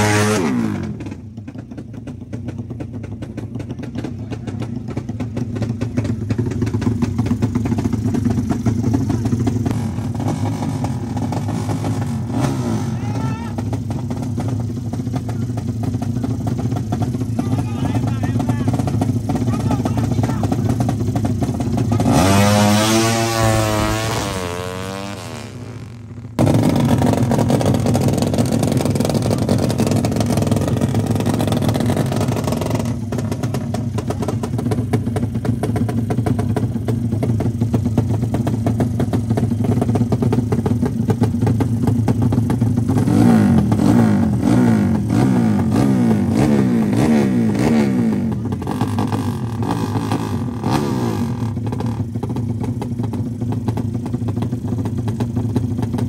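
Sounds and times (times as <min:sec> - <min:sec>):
motorcycle accelerating away: 0:00.0 - 0:01.6, 0:03.9 - 0:53.2
motorcycle engine revving: 0:00.0 - 0:56.0.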